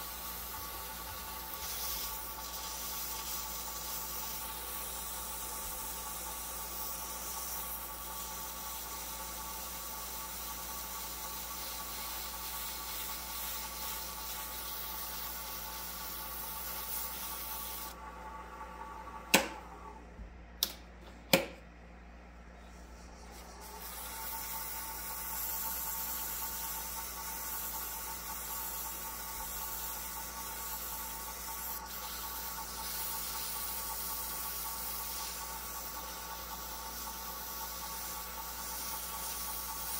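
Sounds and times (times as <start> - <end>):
sandpaper hissing on wood: 0.0 - 18.0, 23.2 - 39.9.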